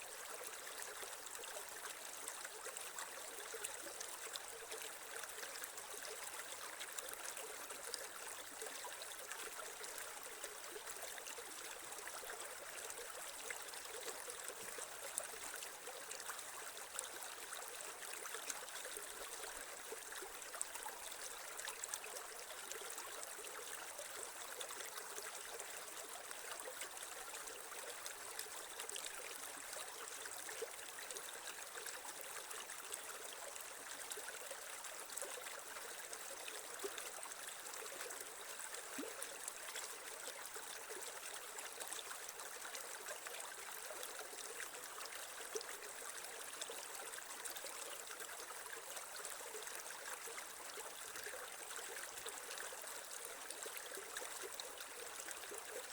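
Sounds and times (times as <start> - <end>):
creek water running over stones: 0.0 - 55.9.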